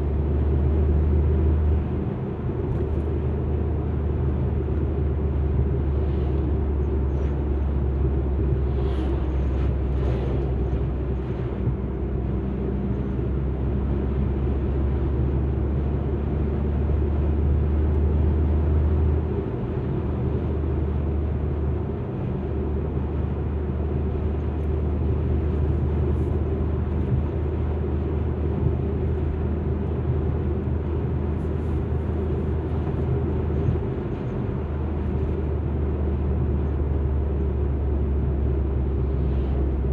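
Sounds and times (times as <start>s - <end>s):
low rumble of engine and tyres: 0.0s - 39.9s.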